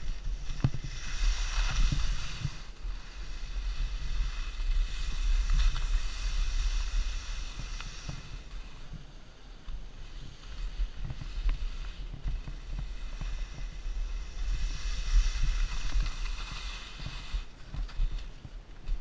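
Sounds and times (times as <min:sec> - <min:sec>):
skis hissing over snow: 0:00.0 - 0:18.3
wind rumble on microphone: 0:00.0 - 0:19.0.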